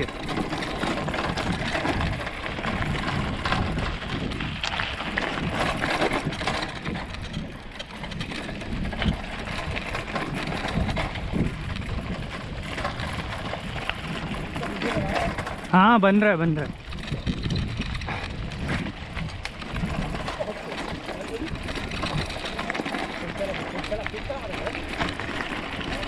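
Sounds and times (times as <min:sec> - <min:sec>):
bicycle knocks and rattles: 0:00.0 - 0:26.0
wind and tyre noise: 0:00.0 - 0:26.0.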